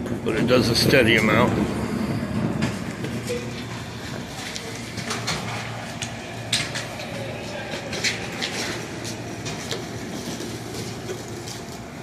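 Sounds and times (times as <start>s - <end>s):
train engines idling: 0.0s - 12.0s.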